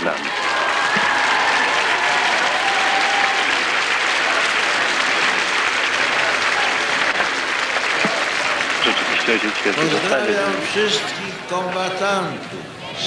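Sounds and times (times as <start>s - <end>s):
crowd applauding: 0.0s - 11.9s.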